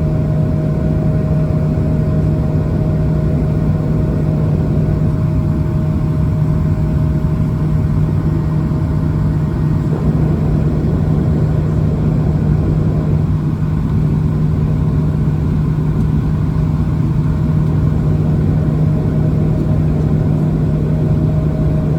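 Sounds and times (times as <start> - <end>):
aircraft cabin engine drone: 0.0 - 21.9
high steady engine tone: 0.0 - 21.9.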